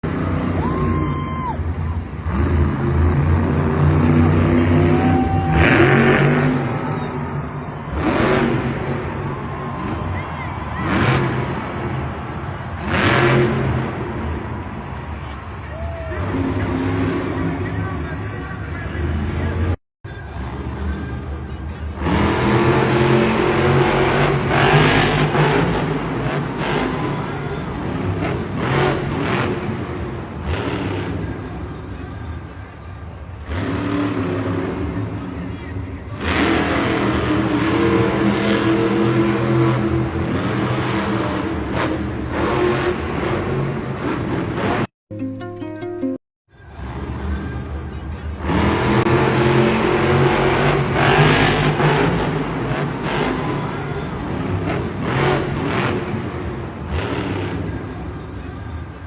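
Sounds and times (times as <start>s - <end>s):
truck engines revving: 0.0s - 44.9s, 46.6s - 59.0s.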